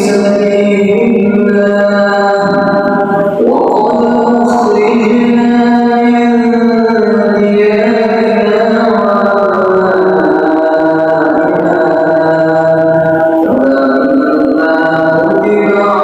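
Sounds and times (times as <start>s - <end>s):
person singing long notes: 0.0s - 16.0s.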